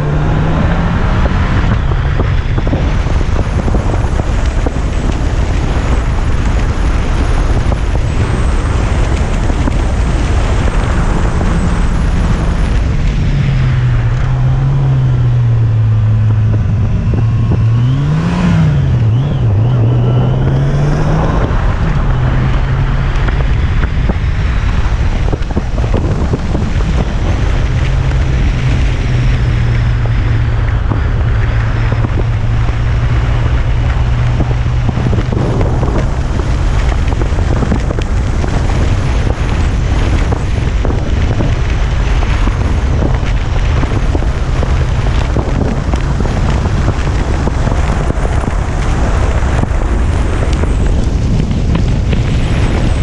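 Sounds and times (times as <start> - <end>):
heavy wind noise: 0.0 - 53.0
motorcycle engine running: 0.0 - 53.0.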